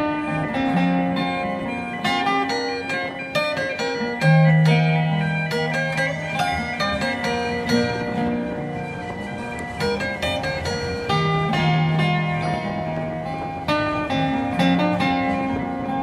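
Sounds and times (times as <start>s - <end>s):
acoustic folk guitar plucking: 0.0s - 16.0s.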